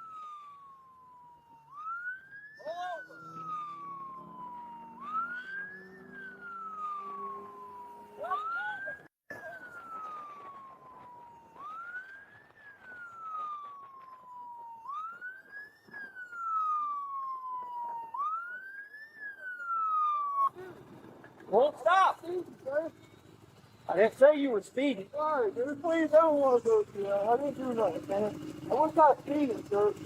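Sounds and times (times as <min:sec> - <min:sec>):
motorcycle siren wailing: 0:00.0 - 0:30.0.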